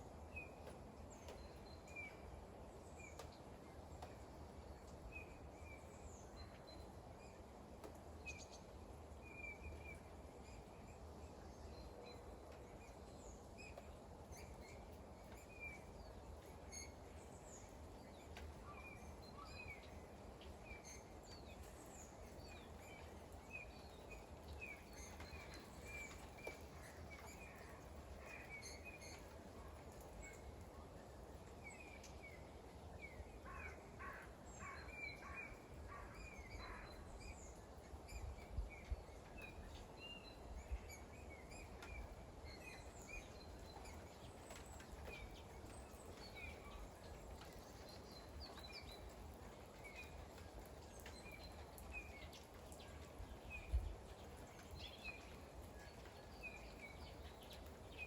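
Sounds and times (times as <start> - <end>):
faint rain: 0.0 - 58.0.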